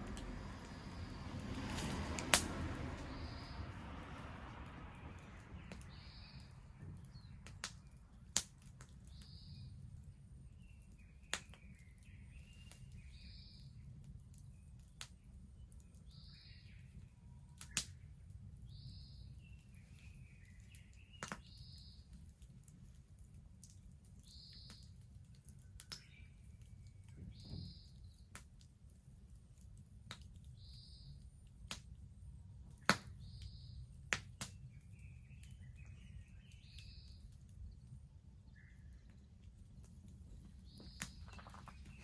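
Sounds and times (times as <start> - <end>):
bonfire burning with crackling pops: 0.0 - 42.0.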